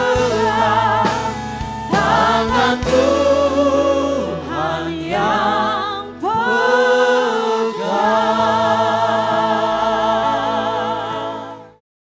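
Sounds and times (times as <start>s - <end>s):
congregation singing with vibrato: 0.0s - 11.8s.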